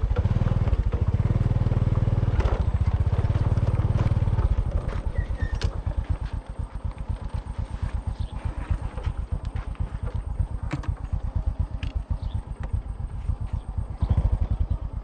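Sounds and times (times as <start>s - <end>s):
motorcycle rattling over bumps: 0.0s - 15.0s
small motorcycle engine: 0.0s - 15.0s.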